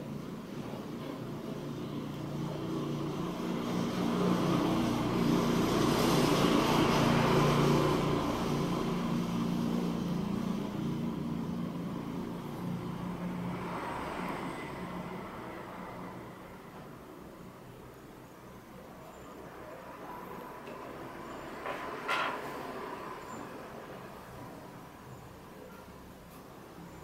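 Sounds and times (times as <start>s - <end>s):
motor vehicle passing by: 0.5s - 17.6s, 19.0s - 25.3s.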